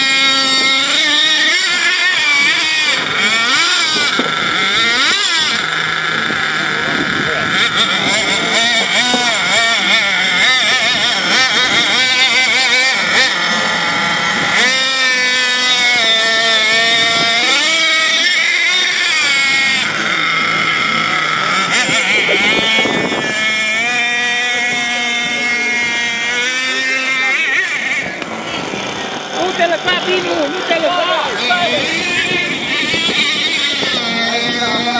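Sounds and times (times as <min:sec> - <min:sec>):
toy truck motor revving: 0:00.0 - 0:34.9.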